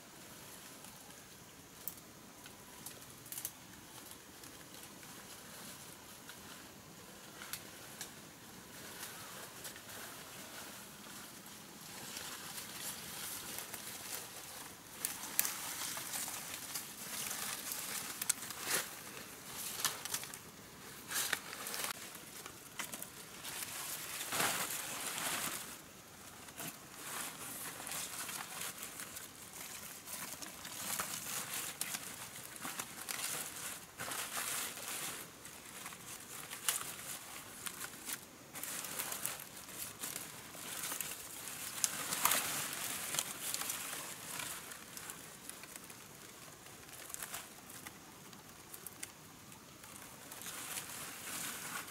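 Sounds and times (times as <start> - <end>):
leaves and stalks rustling: 0.0 - 51.9.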